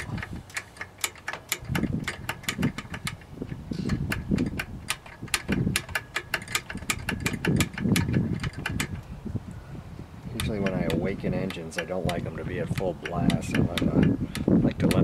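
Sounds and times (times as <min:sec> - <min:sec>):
throttle linkage clicking: 0:00.0 - 0:09.1, 0:10.2 - 0:15.0.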